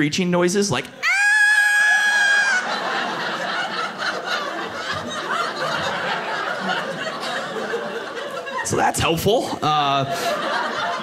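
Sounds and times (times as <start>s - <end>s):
audience laughing: 2.0s - 11.0s.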